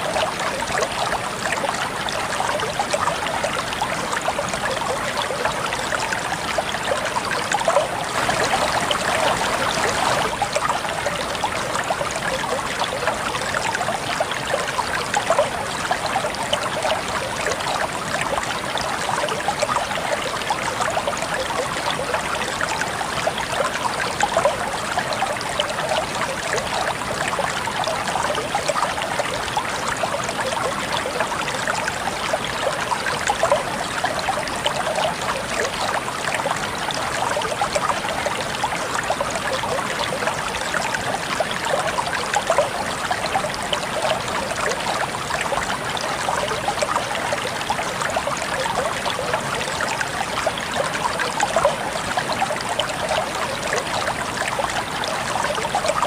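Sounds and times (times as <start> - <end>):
water flowing and trickling: 0.0 - 56.0.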